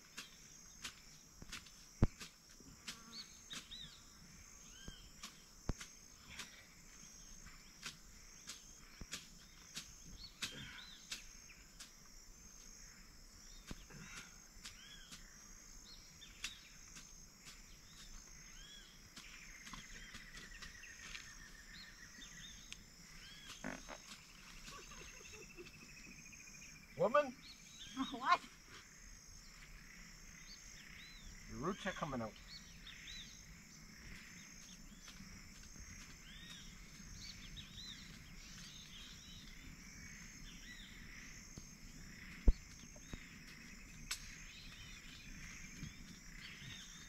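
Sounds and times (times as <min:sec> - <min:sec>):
high insect chorus: 0:00.0 - 0:47.0.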